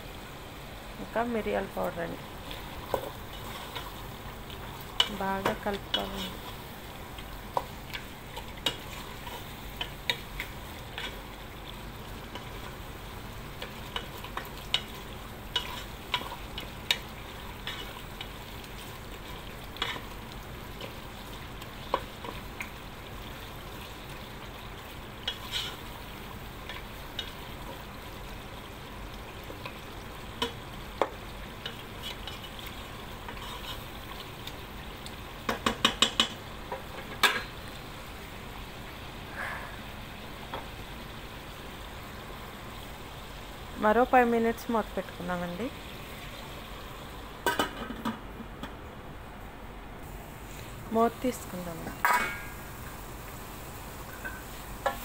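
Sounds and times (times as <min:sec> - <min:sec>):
food frying and sizzling: 0:00.0 - 0:55.0.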